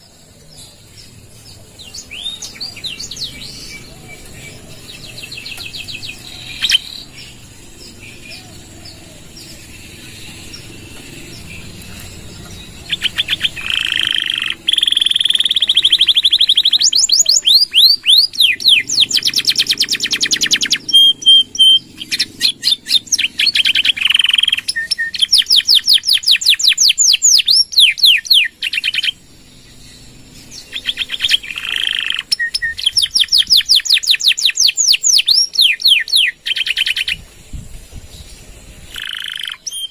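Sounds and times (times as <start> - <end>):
canary singing trills: 0.0 - 37.2, 38.1 - 39.9.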